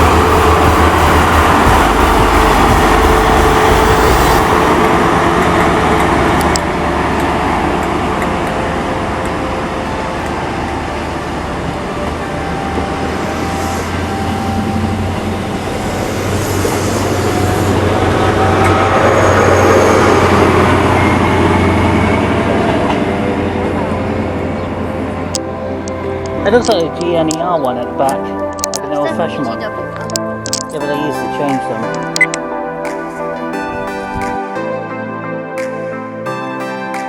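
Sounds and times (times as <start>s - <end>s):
train diesel engine running: 0.0s - 31.4s.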